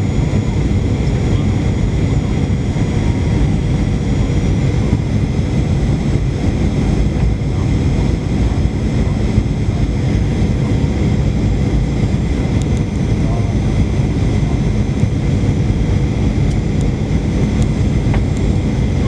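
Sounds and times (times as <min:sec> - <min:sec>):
faint engine whine: 0:00.0 - 0:19.0
jet engine cabin rumble: 0:00.0 - 0:19.0.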